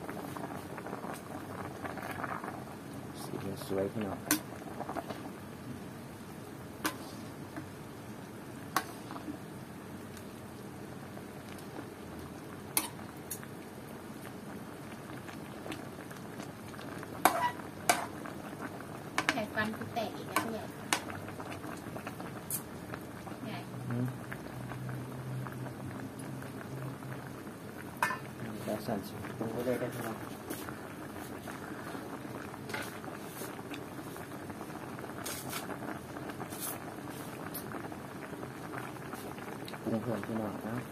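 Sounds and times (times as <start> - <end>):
pot simmering with bubbling: 0.0 - 40.9.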